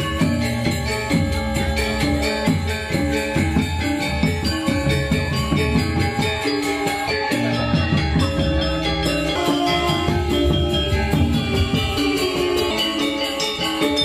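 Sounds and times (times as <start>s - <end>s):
gamelan metal percussion: 0.0s - 14.0s.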